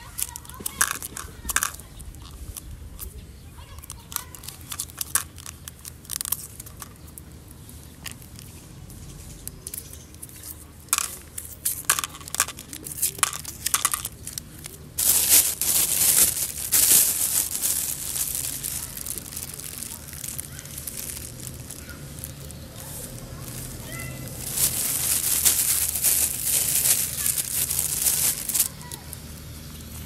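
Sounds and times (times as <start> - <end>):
paper and foil wrapper tearing: 0.0 - 2.4, 3.7 - 6.9, 9.7 - 29.2
mints dropping into plastic cup: 0.0 - 7.3, 9.4 - 29.2
plastic bag crinkling: 0.0 - 8.5, 9.4 - 30.0.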